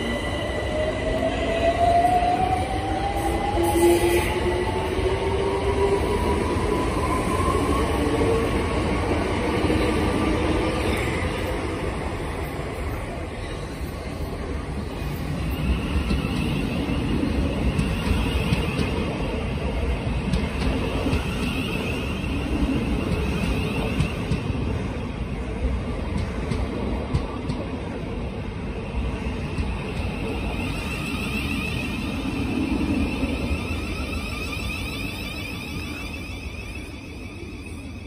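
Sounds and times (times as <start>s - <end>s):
train high whine: 0.0s - 38.0s
wheels rumbling on rail: 0.0s - 38.0s.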